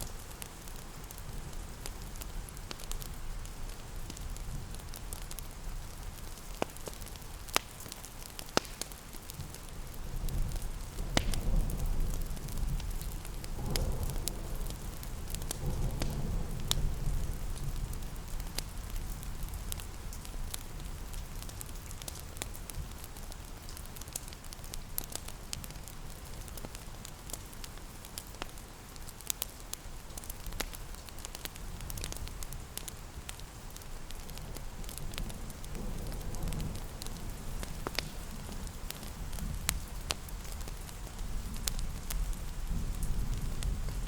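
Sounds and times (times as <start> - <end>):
fireplace crackling and popping: 0.0 - 44.0
rain patter: 0.0 - 44.0.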